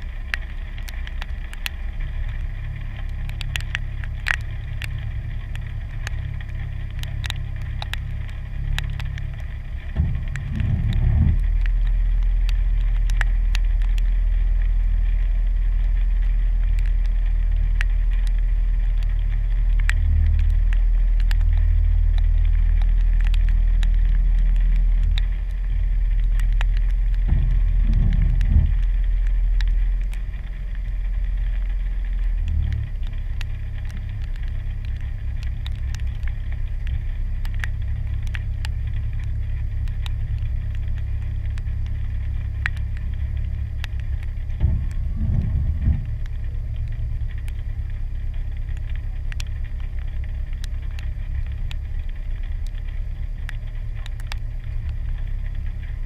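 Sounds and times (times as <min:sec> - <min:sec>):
car engine idling: 0:00.0 - 0:56.0
raindrops ticking on camera: 0:00.0 - 0:56.0.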